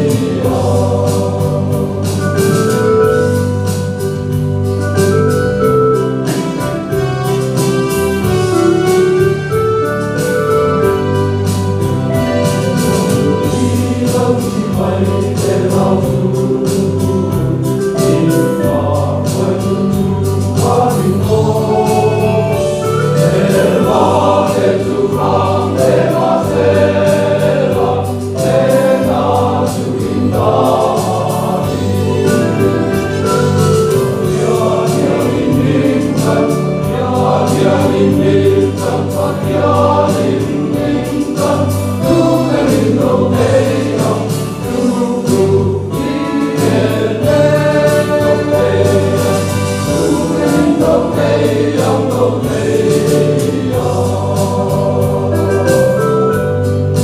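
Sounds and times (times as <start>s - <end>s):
men's choir singing gospel: 0.0s - 57.0s.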